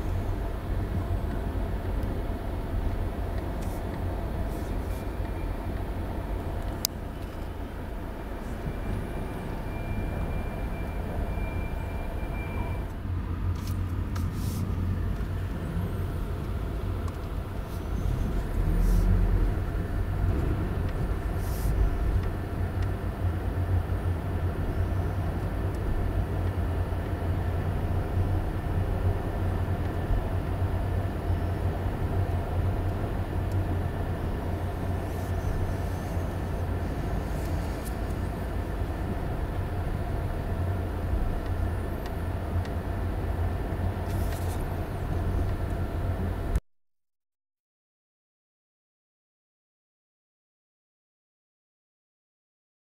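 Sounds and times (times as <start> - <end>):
car engine and tyre rumble: 0.0 - 46.6.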